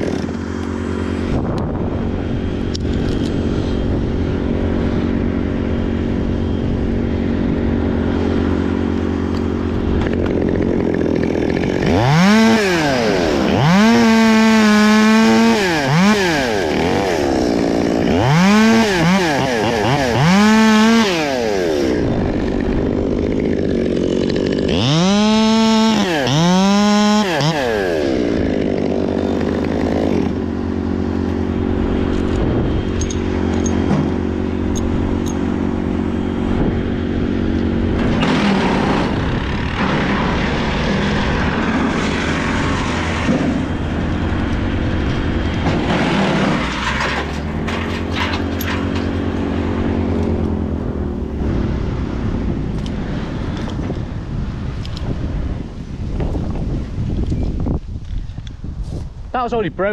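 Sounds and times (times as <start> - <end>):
chainsaw idling and revving: 0.0 - 53.8.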